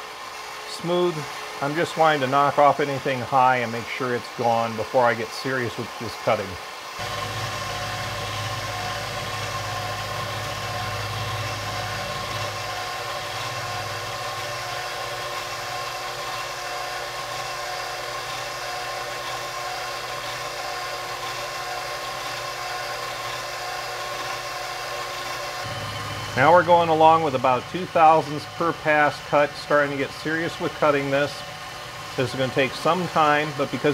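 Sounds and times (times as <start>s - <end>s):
milling machine motor whine: 0.0s - 33.9s.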